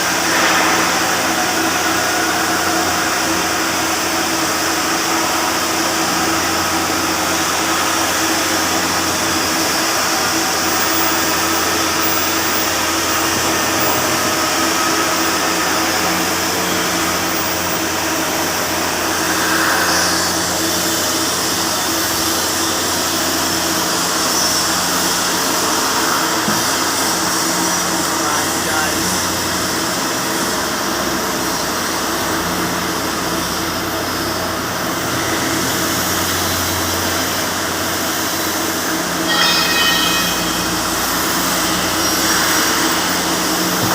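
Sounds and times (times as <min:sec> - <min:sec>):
welding equipment humming and hissing: 0:00.0 - 0:43.9.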